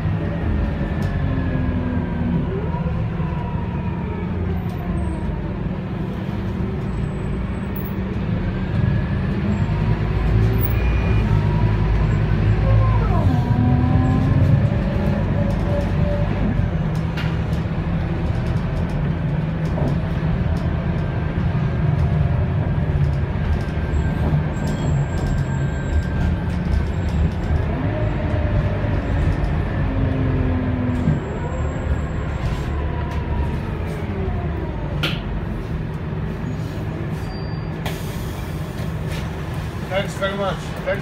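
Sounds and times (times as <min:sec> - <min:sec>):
bus diesel engine droning: 0:00.0 - 0:41.0.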